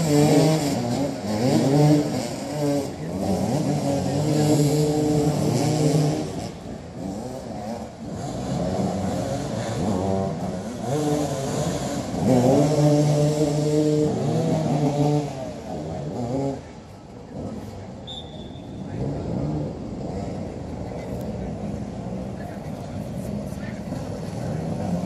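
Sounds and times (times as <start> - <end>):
motorcycles revving: 0.0 - 25.0.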